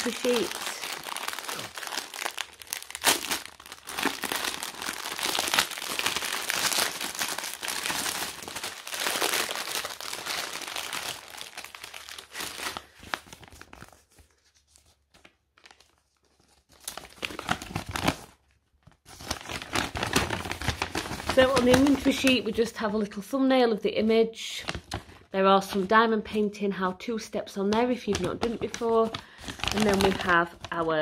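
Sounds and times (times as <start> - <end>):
plastic wrapping crinkling: 0.0 - 22.6, 28.0 - 31.0.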